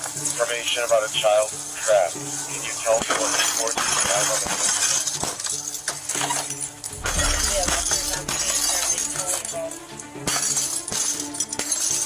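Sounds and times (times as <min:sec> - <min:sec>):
background music with sustained tones: 0:00.0 - 0:12.0.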